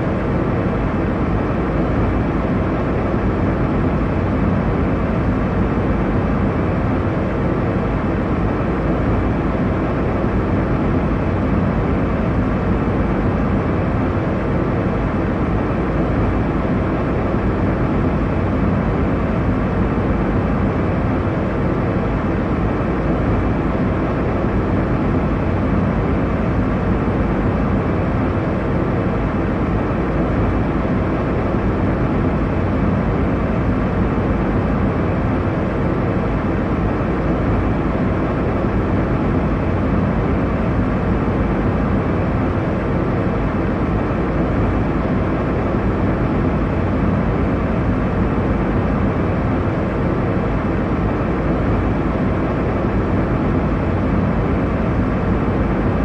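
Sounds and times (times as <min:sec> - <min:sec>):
airliner cabin rumble and hiss: 0:00.0 - 0:56.0
faint steady hum: 0:00.0 - 0:56.0.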